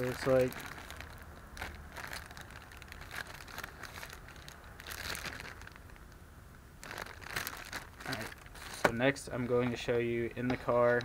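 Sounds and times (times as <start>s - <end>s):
plastic bag crinkling: 0.0s - 6.2s, 6.8s - 11.0s.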